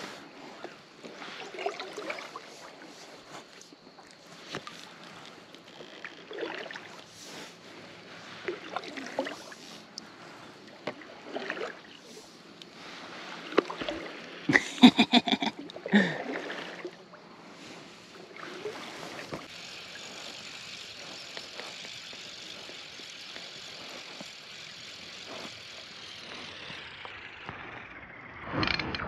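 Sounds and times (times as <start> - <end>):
kayak paddle swishing through water: 0.0 - 28.4.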